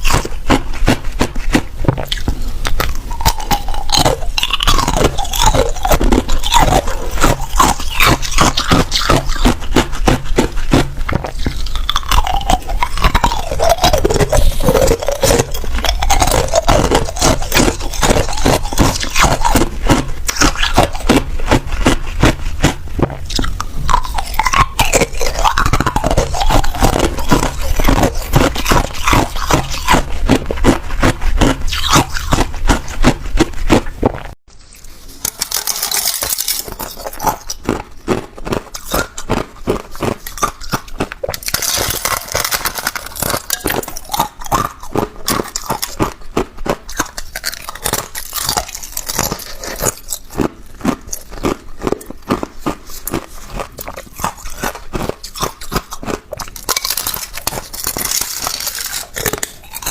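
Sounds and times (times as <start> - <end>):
person chewing ice crunching: 0.0 - 59.9.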